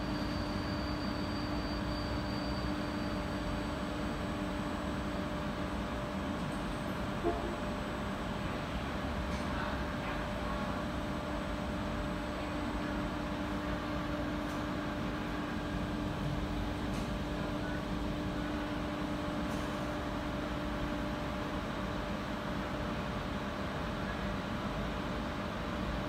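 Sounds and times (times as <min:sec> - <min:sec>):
fan-like noise: 0:00.0 - 0:26.0.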